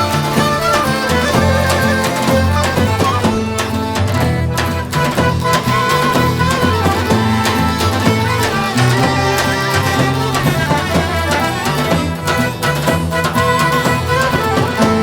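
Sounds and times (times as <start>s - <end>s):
dense accompaniment: 0.0s - 15.0s
ornamented lead melody: 0.0s - 15.0s
steady drum beat: 0.0s - 15.0s.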